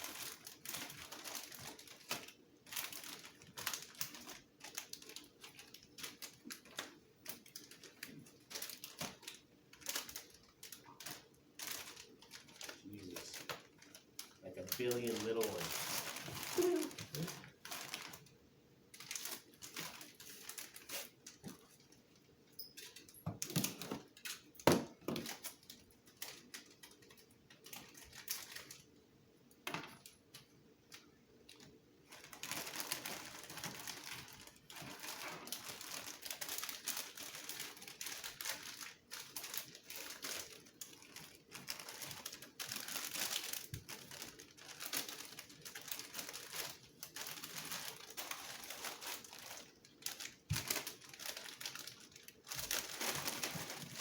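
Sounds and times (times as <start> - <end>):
plastic crinkling rustle: 0.0 - 29.0, 29.6 - 54.0.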